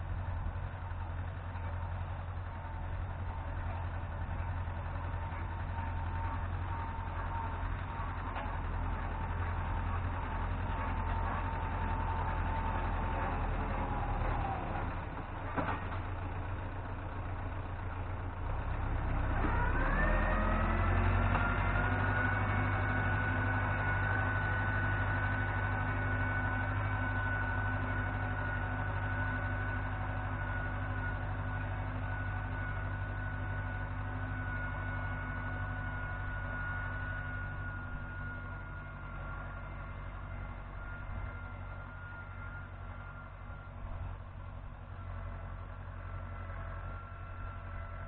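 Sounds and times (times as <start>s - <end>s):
tractor diesel engine revving: 0.0s - 48.0s.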